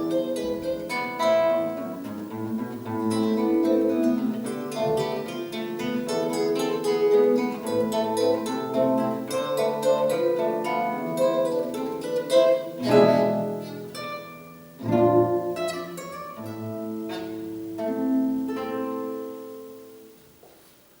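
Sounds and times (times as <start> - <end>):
plucked string instruments: 0.0 - 20.6.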